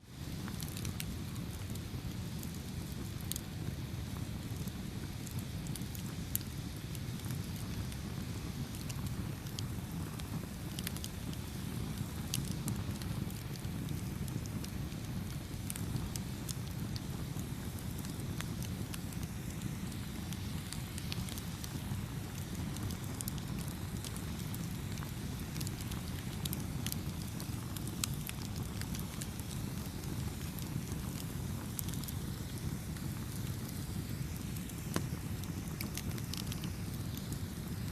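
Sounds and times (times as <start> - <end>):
fire crackles and pops: 0.0 - 37.9
flames rushing: 0.1 - 37.9.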